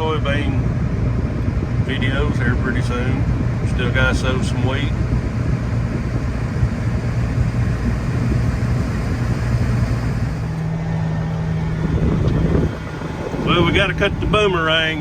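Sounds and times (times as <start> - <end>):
farm vehicle engine drone: 0.0 - 15.0
steady low hum: 0.0 - 15.0.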